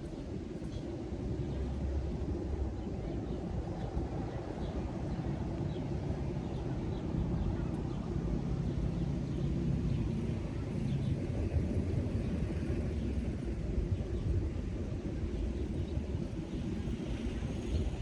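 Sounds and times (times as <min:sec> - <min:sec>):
low rumbling outdoor ambience: 0:00.0 - 0:18.0.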